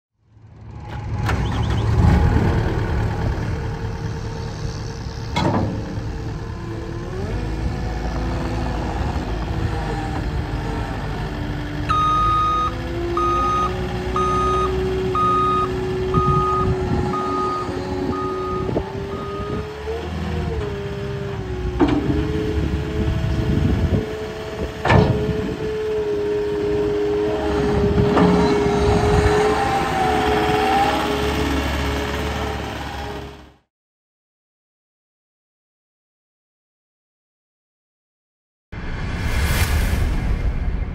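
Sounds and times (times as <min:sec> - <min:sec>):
diesel engine whining: 0:00.3 - 0:33.6.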